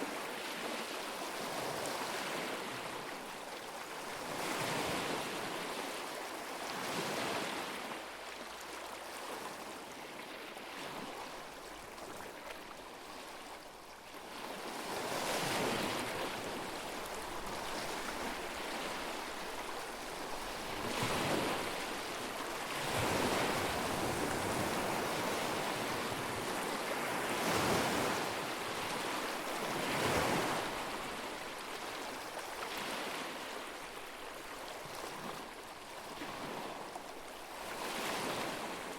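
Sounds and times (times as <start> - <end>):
lake waves washing on shore: 0.0 - 38.9.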